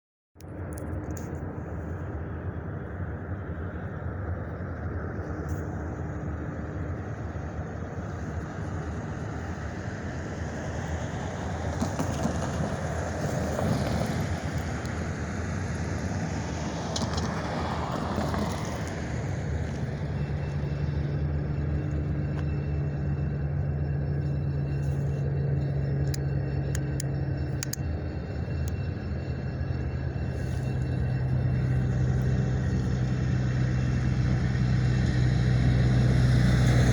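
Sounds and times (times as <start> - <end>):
diesel locomotive engine running: 1.4 - 36.9.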